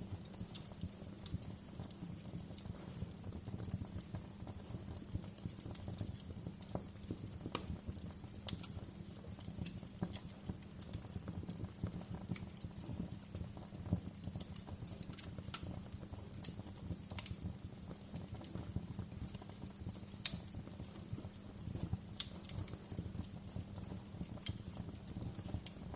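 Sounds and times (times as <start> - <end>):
low rumble of flames: 0.0 - 25.9
wood fire crackling: 0.0 - 25.9.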